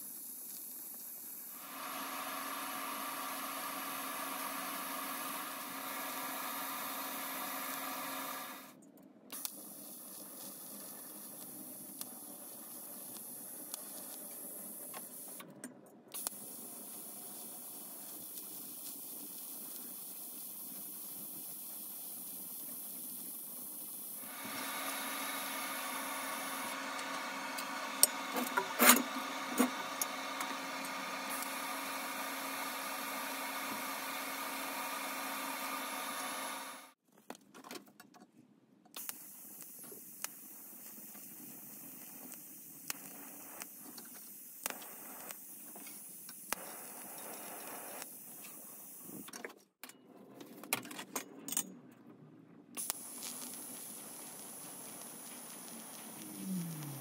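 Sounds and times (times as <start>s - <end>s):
welding arc buzzing hum: 0.0s - 8.8s, 9.4s - 15.4s, 16.2s - 37.0s, 39.0s - 49.3s, 52.8s - 57.0s.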